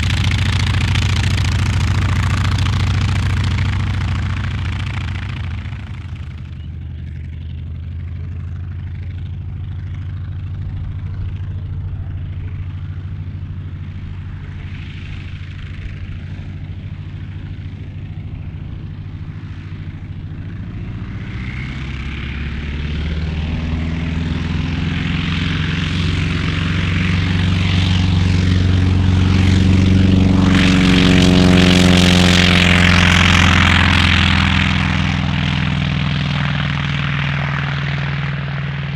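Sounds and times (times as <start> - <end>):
propeller aircraft engine: 0.0 - 38.9.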